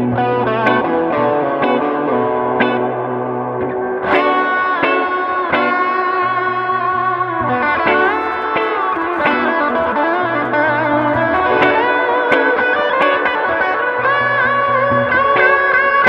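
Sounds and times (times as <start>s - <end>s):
looped backing guitar: 0.0s - 16.0s
overdriven electric guitar lead: 0.0s - 16.0s.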